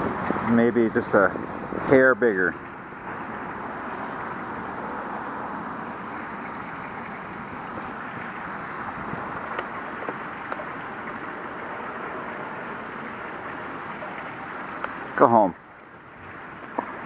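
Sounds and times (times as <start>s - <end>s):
water rushing through drain: 0.0s - 17.0s.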